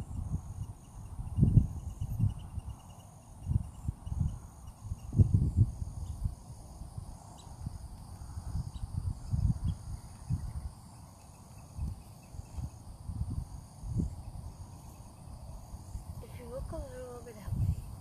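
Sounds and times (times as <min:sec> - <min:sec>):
wind buffeting microphone: 0:00.0 - 0:11.0, 0:11.6 - 0:18.0
insects chorus in grass: 0:00.0 - 0:18.0.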